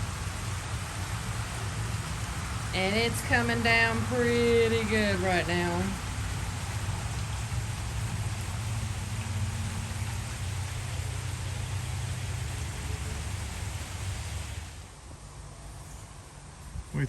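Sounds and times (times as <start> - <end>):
heavy rain falling: 0.0 - 14.9
steady low rumble: 0.0 - 17.0.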